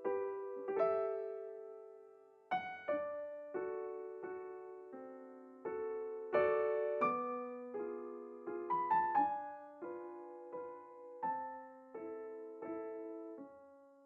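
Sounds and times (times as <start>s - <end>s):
slow solo piano music: 0.0s - 14.0s.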